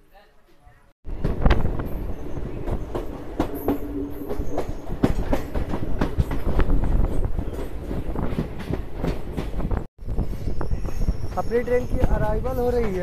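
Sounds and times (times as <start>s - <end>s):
train wheels rumbling: 1.1s - 13.0s.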